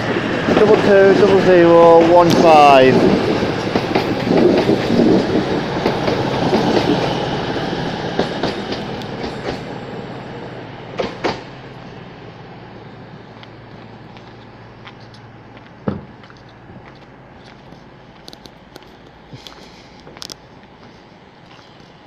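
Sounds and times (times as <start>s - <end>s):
train running and wheel noise: 0.0s - 22.0s.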